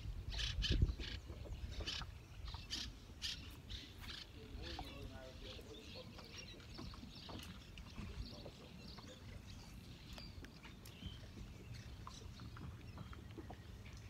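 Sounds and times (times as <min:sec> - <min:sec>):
low rumble of wind and water: 0:00.0 - 0:14.0
birds chirping: 0:00.3 - 0:14.0.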